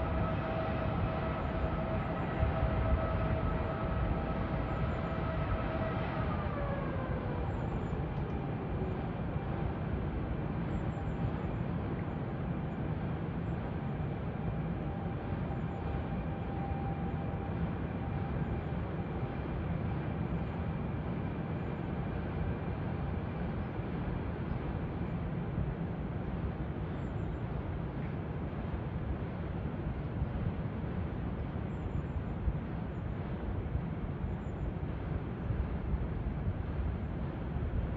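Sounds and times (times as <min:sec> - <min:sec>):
faint whine: 0:00.0 - 0:37.9
train rumbling across bridge: 0:00.0 - 0:37.9.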